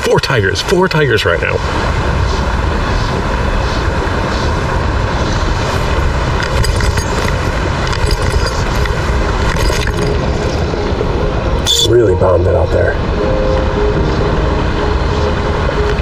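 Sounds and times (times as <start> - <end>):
wind buffeting microphone: 0.4 - 16.0.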